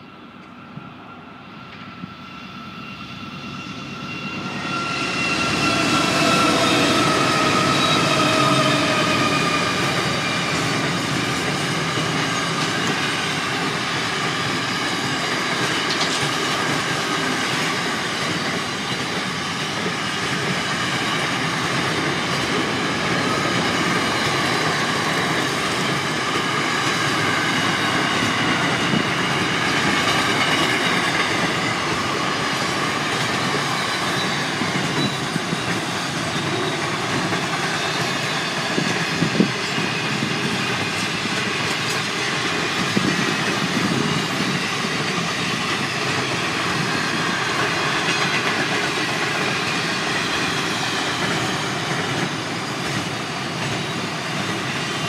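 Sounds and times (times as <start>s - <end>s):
diesel locomotive passing: 0.0s - 55.0s.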